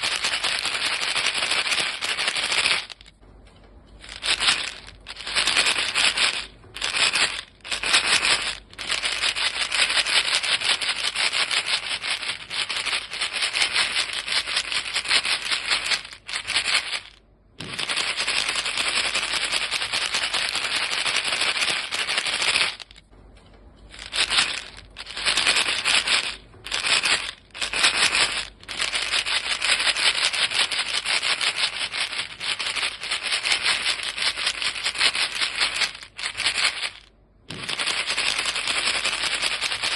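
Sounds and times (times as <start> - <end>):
gum pellets rattling in box: 0.0 - 3.2, 4.0 - 23.1, 23.9 - 39.9.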